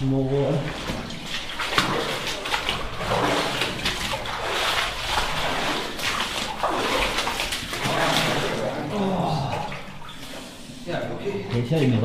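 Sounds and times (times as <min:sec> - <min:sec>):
person wading through water: 0:00.0 - 0:11.5.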